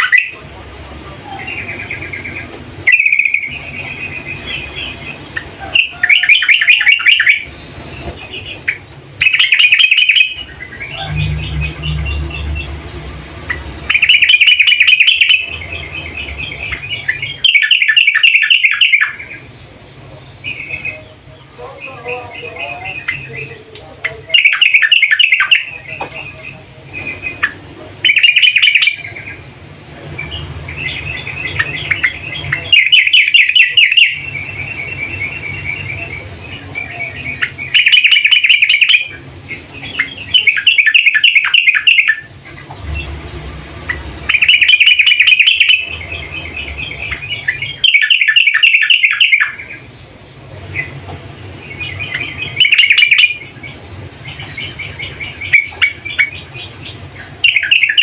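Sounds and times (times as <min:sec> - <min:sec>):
steady low hum: 0:00.0 - 0:18.2, 0:18.9 - 0:47.9
bird chattering: 0:00.0 - 0:58.0.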